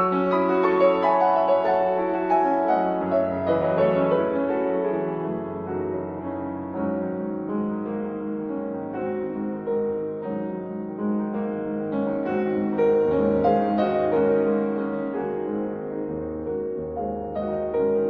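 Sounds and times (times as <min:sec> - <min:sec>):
soft slow piano music: 0:00.0 - 0:18.0.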